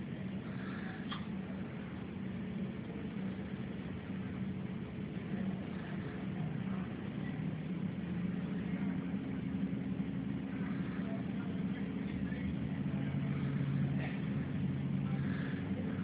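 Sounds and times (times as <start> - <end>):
heavy engine humming: 0.0 - 16.0.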